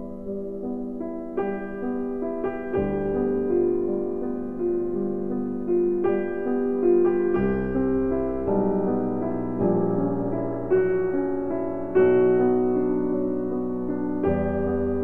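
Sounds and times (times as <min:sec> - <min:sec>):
deep piano bass notes: 0:00.0 - 0:15.0
slow piano melody: 0:00.0 - 0:15.0.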